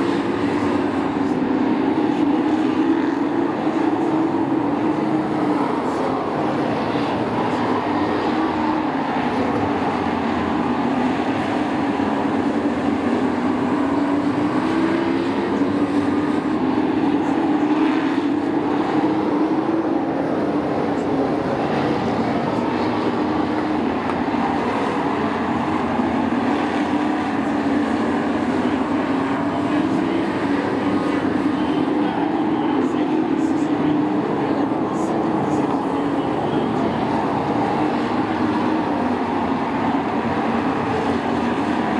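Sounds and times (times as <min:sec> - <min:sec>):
race truck engines droning: 0:00.0 - 0:41.9.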